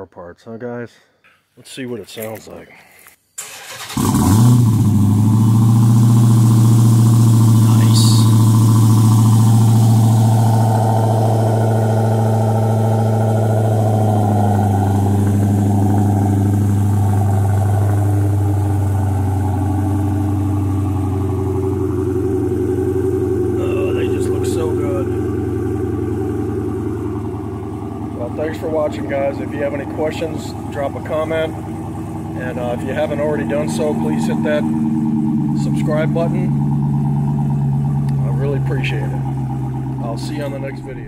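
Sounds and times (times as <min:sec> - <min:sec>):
car engine starting and idling: 0:03.4 - 0:41.0.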